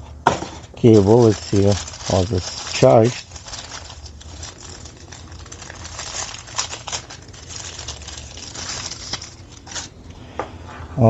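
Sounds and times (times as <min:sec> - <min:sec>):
packaging crinkling and rustling: 0:00.8 - 0:10.0.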